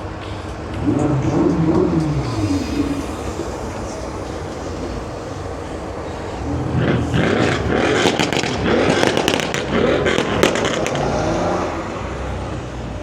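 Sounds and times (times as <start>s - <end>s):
car engine running: 0.0s - 13.0s
car exhaust popping and crackling: 0.0s - 13.0s.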